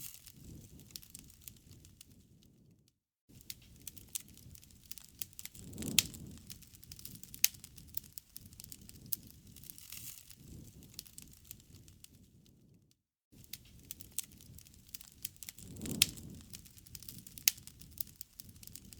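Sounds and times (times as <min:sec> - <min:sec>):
campfire crackling and popping: 0:00.0 - 0:02.7, 0:03.3 - 0:12.8, 0:13.4 - 0:18.9.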